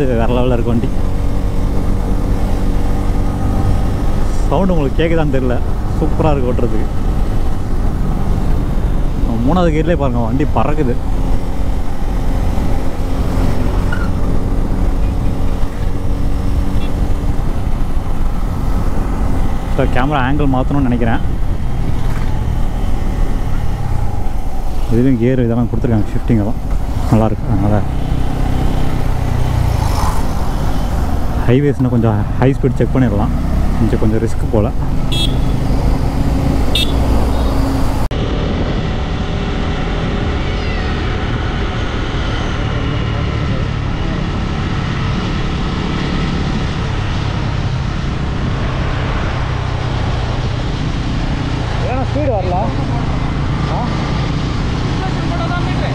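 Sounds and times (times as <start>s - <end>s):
motorcycle engine rumbling: 0.0s - 55.9s.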